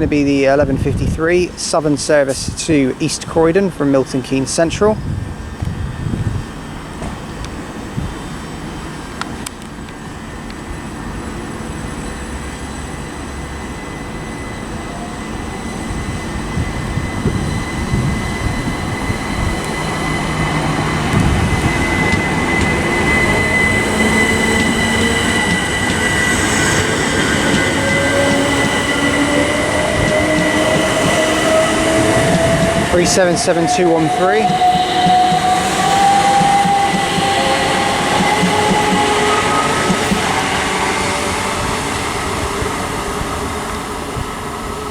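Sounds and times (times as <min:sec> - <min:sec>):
electric train pulling away: 0:00.0 - 0:44.9
high train squeal: 0:00.0 - 0:44.9
rising train whine: 0:00.0 - 0:44.9.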